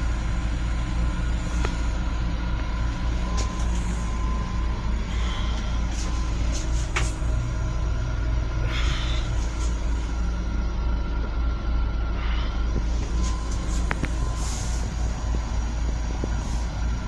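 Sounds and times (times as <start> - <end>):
electric railcar rumble and hum: 0.0 - 17.0.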